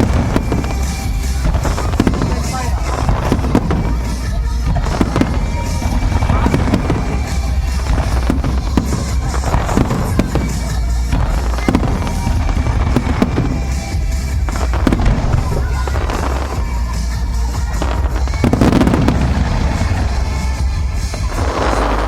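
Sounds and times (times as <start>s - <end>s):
fireworks booming: 0.0s - 22.0s
fireworks crackling: 0.0s - 22.0s.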